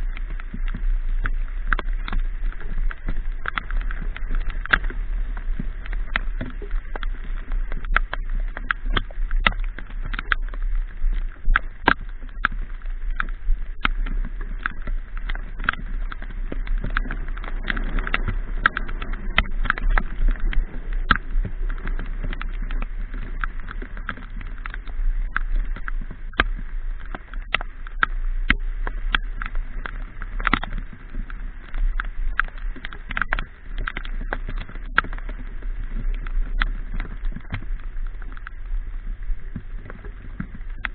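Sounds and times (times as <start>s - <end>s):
raindrops tapping on camera: 0.0s - 40.9s
wind and motorbike engine rumble: 0.0s - 40.9s.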